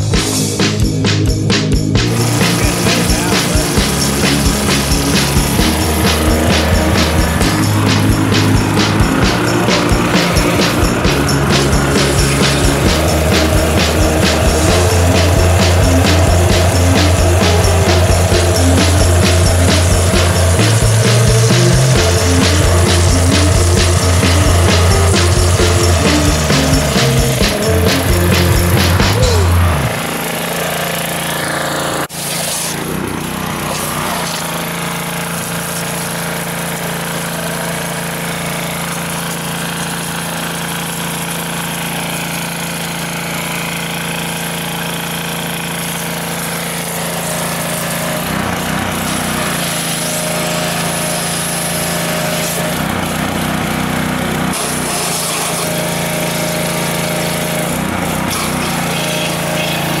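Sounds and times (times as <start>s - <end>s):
pressure washer engine running: 0.0s - 60.0s
high-pressure water jet hiss: 2.0s - 29.6s, 32.0s - 60.0s.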